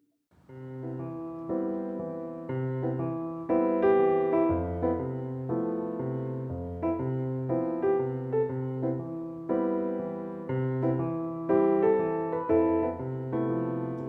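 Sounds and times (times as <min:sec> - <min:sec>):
piano chords: 0:00.4 - 0:14.0.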